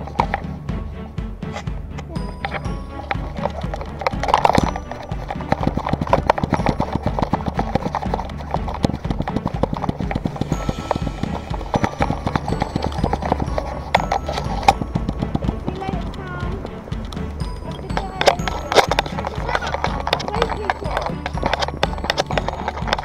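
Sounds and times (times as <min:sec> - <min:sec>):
dog paws pattering on tarmac: 0:01.4 - 0:23.0.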